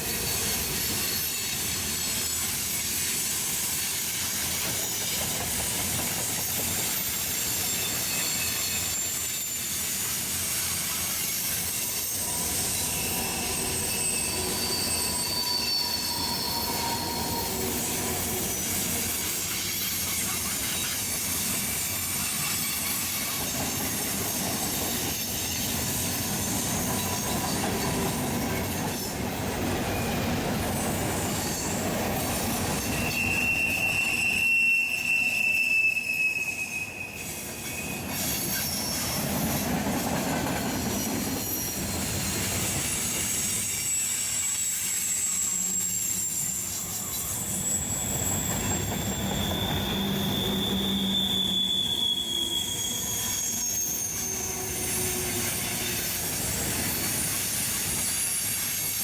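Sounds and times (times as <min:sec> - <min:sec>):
railroad cars rolling rumble: 0:00.0 - 0:59.0
train wheels squealing on rails: 0:00.0 - 0:59.0.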